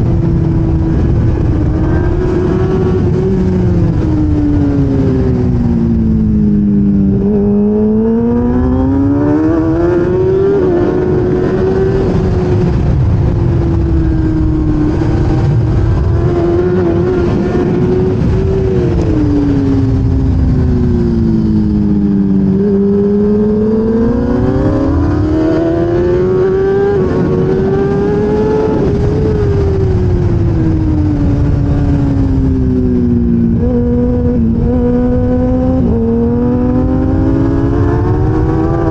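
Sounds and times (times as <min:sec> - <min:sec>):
racing motorcycle engine: 0:00.0 - 0:38.9
wind noise: 0:00.0 - 0:38.9.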